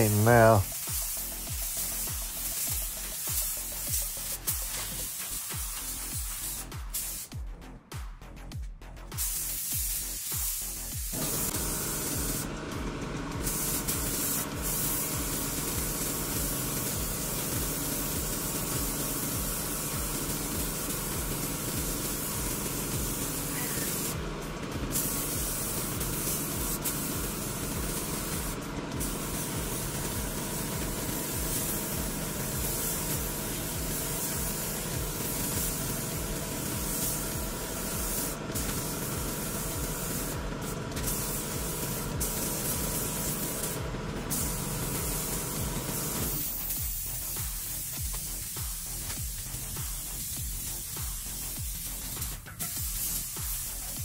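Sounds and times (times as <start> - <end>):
spray gun hissing: 0.0 - 7.4, 9.1 - 54.0.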